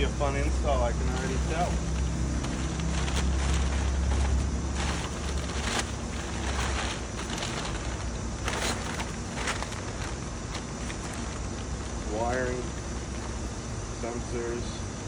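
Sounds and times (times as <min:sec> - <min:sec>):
low vehicle rumble: 0:00.0 - 0:14.4
packing paper crinkling: 0:01.0 - 0:13.5.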